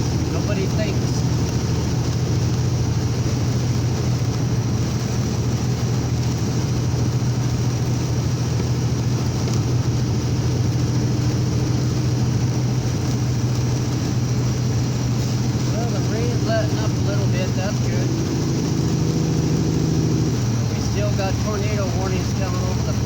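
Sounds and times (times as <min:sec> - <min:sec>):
engine drone inside vehicle: 0:00.0 - 0:23.0
rain hiss: 0:00.0 - 0:23.0
wet tyres on road: 0:00.0 - 0:23.0.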